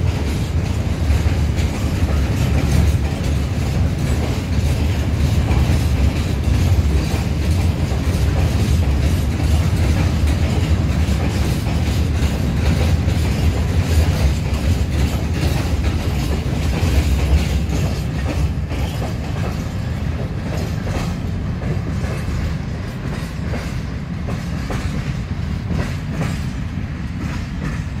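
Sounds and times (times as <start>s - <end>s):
train wheels rumbling and clacking: 0.0s - 28.0s.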